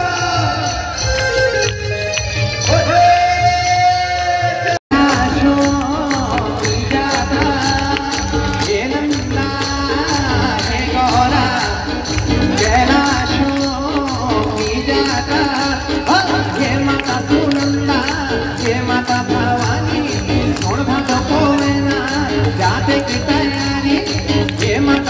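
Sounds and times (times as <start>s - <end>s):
person singing over loudspeakers: 0.0s - 1.4s, 2.6s - 25.0s
jingling hand percussion: 0.0s - 4.3s, 4.9s - 25.0s
percussion beat: 0.0s - 25.0s.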